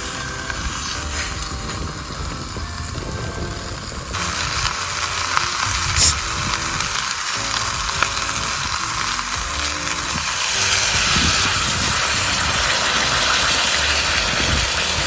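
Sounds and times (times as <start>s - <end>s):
ribs sizzling in a pan: 0.0s - 15.0s.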